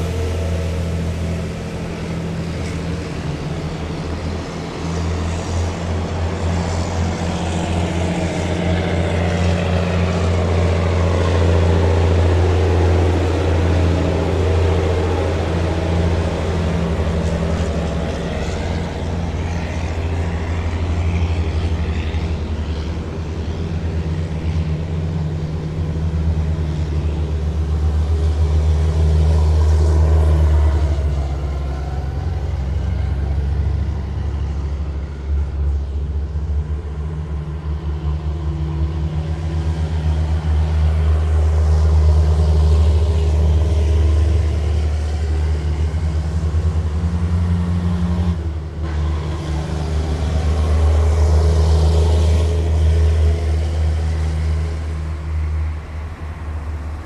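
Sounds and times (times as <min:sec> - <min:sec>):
heavy vehicles rumbling past: 0:00.0 - 0:57.0.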